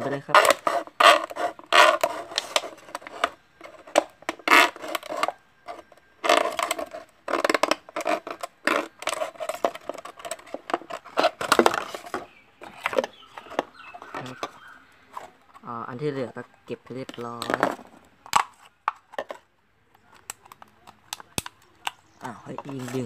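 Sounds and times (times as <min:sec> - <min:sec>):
plastic bottle crinkling: 0:00.0 - 0:23.0.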